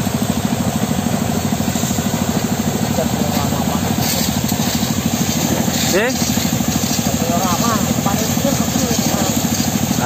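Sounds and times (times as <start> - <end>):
engine idling with chugging pulse: 0.0 - 10.0.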